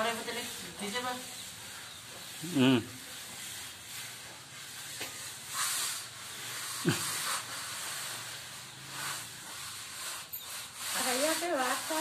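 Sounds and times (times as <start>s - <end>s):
gritty scrapes of soil: 0.0s - 12.0s.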